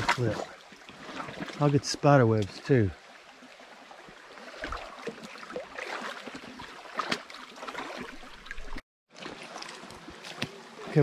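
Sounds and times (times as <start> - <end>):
creek trickling and babbling: 0.0 - 11.0.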